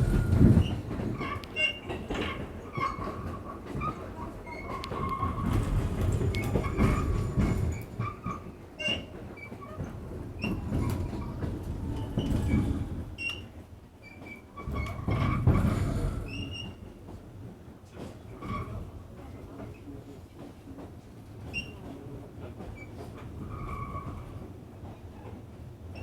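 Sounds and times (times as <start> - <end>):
subway wheels rumbling on rails: 0.0 - 26.0.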